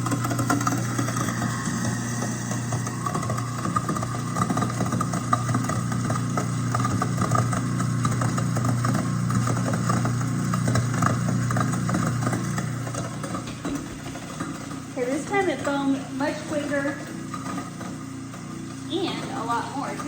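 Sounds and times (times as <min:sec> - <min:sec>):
garbage disposal motor humming: 0:00.0 - 0:20.0
water trickling: 0:00.1 - 0:20.0.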